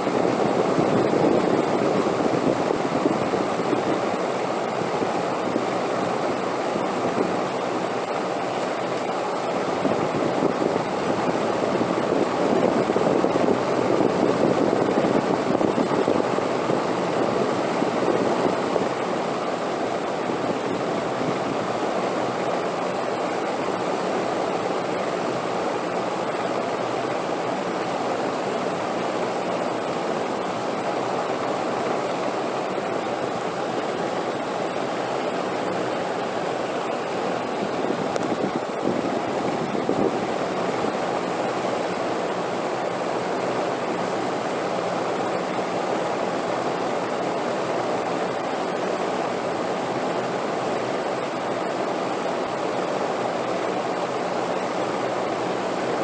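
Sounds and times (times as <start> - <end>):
rushing wind: 0.0 - 56.0.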